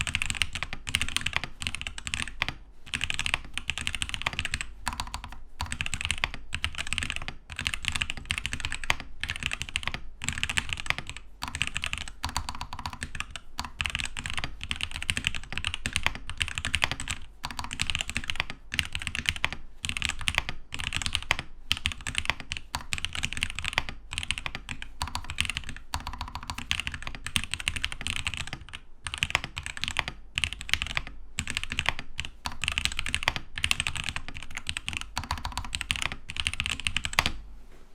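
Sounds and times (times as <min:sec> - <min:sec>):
mechanical keyboard typing: 0:00.0 - 0:37.3.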